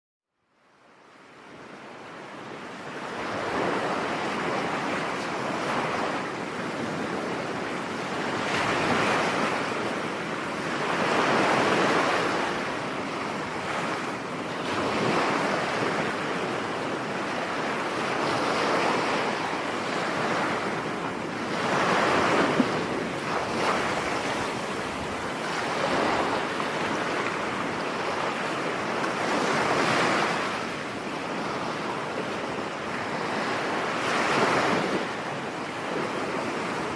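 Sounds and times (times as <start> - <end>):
ocean waves breaking: 1.4 - 36.9.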